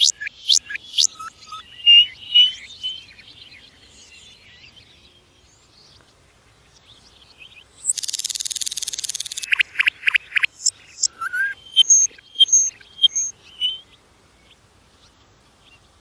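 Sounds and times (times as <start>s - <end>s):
nightingale singing: 0.0s - 16.0s.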